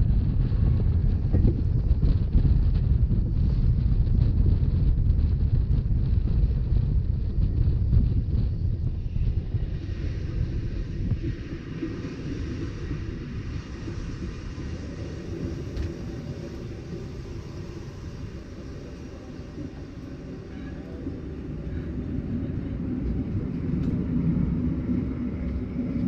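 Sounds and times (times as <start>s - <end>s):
train rumbling on track: 0.0s - 26.0s
wind noise: 0.0s - 26.0s.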